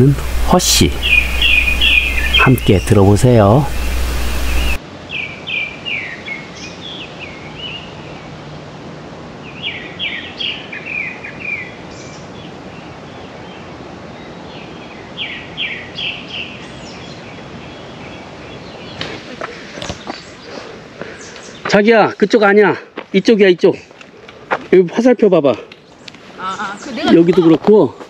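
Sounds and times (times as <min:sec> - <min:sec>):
songbird singing: 0:00.0 - 0:08.7, 0:09.3 - 0:28.0
background hiss: 0:00.0 - 0:28.0.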